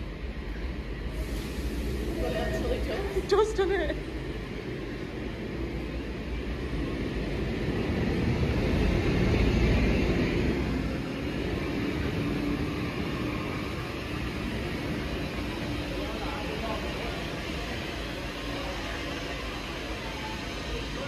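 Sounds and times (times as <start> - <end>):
steam locomotive steady rushing: 0.0 - 21.0.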